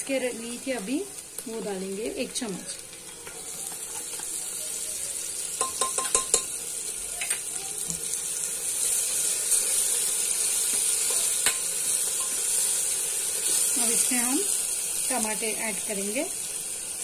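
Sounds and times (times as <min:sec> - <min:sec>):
onions sizzling: 0:00.0 - 0:17.0.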